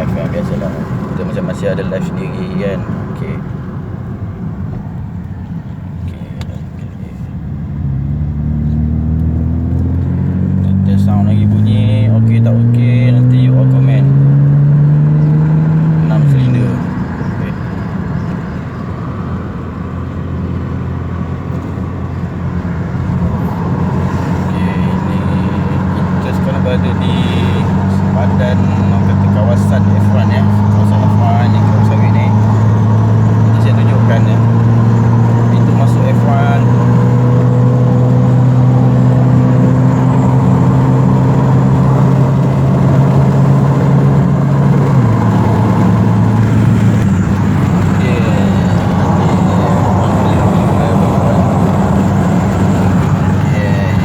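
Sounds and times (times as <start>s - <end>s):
car engine droning while driving: 0.0s - 54.0s.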